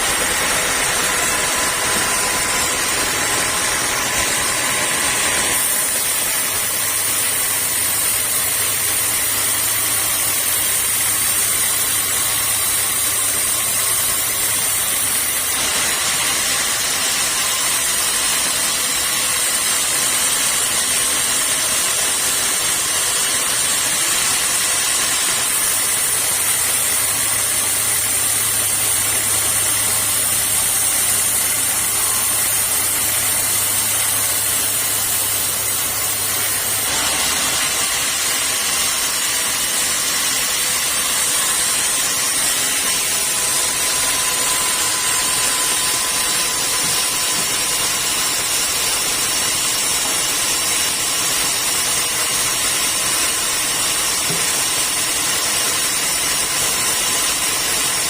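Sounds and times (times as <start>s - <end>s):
sawmill machinery hissing: 0.0s - 58.0s.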